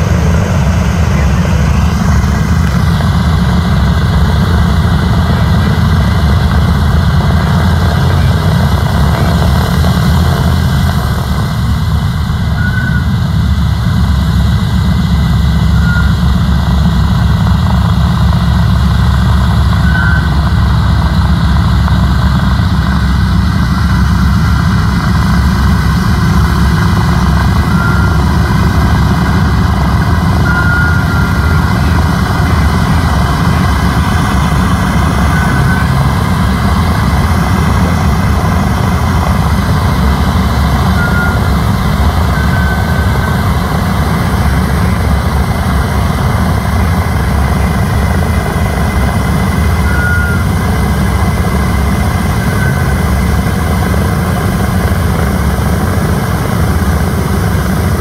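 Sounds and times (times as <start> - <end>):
radial aircraft engines droning: 0.0 - 58.0.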